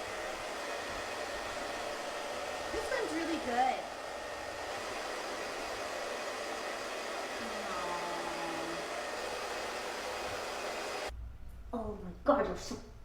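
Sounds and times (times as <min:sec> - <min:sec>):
handheld dryer blowing: 0:00.0 - 0:11.1.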